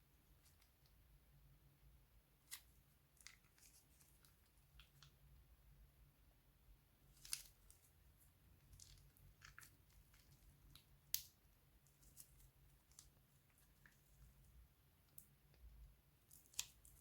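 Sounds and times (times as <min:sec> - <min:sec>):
soft clicks and squishes of slime: 0:00.2 - 0:01.1, 0:02.4 - 0:05.5, 0:07.1 - 0:17.0.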